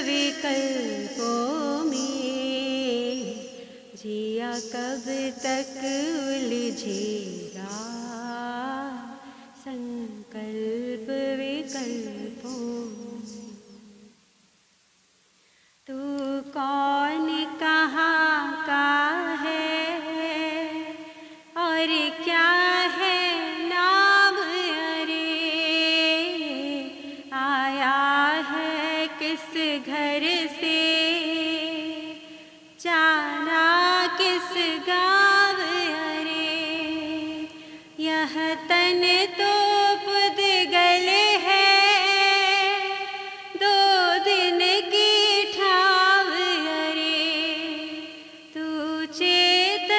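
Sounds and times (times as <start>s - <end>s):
woman singing devotional song: 0.0s - 14.2s, 15.7s - 49.9s.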